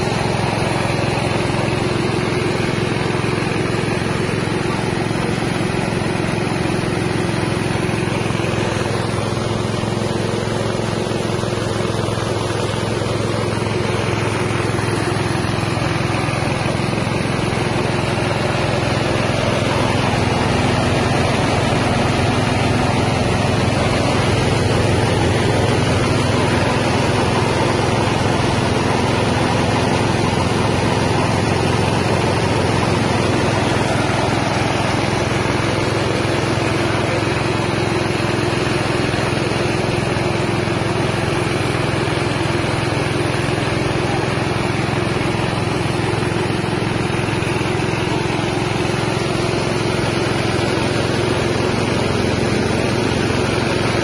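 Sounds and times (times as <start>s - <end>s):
small engine running under load: 0.0s - 54.0s.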